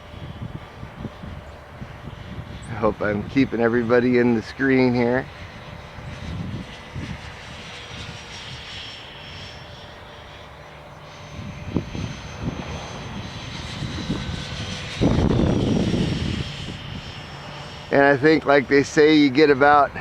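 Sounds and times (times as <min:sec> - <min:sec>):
model jet fans whining: 0:00.0 - 0:20.0.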